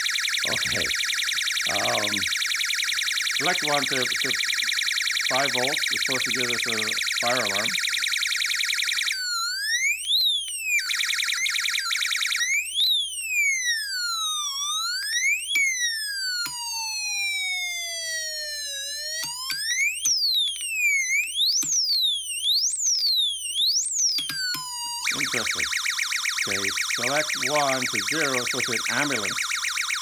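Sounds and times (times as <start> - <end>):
electronic siren sweeping: 0.0 - 30.0.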